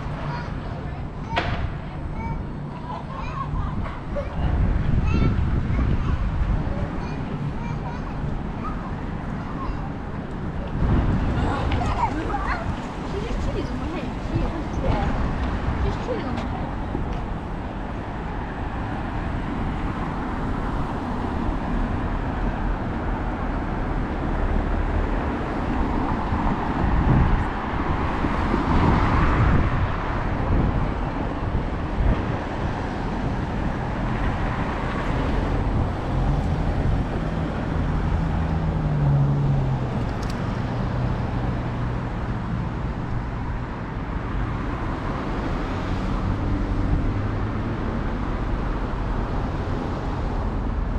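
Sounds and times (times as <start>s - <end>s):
road traffic passing: 0.0s - 50.9s
wind rumbling on microphone: 3.4s - 50.9s.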